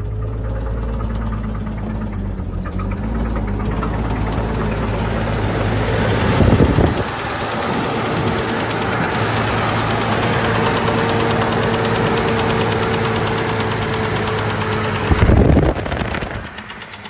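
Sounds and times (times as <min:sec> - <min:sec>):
engine knocking: 0:00.0 - 0:17.0.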